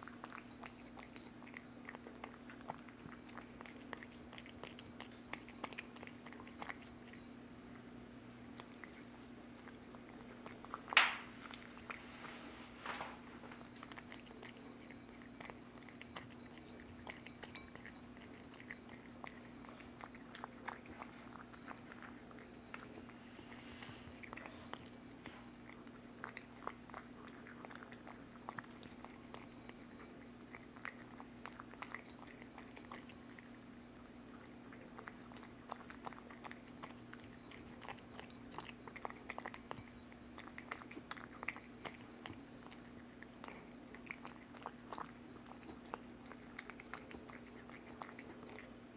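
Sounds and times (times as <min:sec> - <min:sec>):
cat chewing and licking: 0:00.0 - 0:48.9
faint steady hum: 0:00.0 - 0:48.9.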